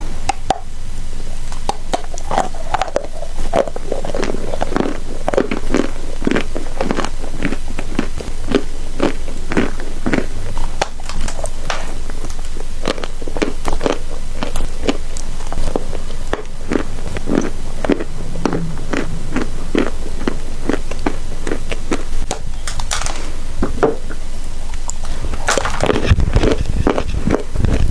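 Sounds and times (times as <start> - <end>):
low steady hum: 0.0 - 27.9
chalk crunching being chewed: 1.5 - 23.2, 24.7 - 27.9.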